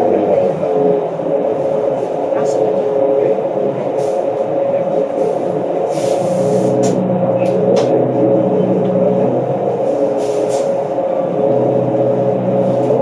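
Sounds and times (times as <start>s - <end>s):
bus engine drone with whine: 0.0s - 13.0s.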